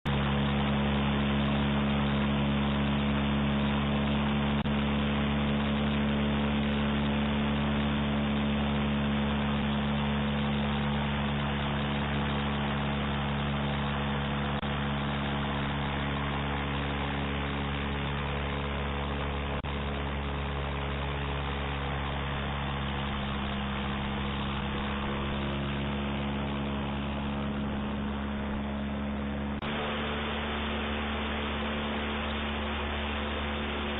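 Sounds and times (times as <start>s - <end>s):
airboat engine and propeller running: 0.0s - 33.9s.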